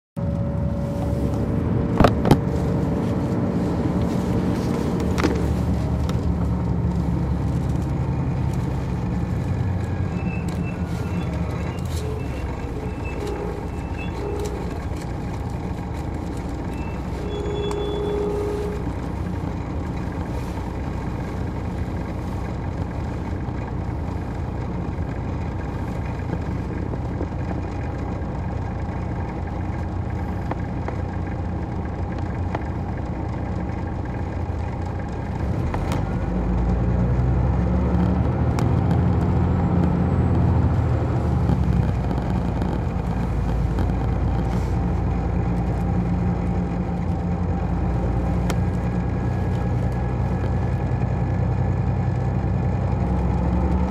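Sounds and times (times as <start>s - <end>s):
diesel engine running: 0.2s - 53.9s.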